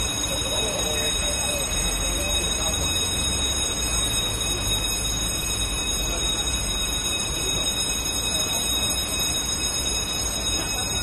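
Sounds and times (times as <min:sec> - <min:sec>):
faint voices: 0:00.0 - 0:11.0
fire engine rumbling: 0:00.0 - 0:11.0.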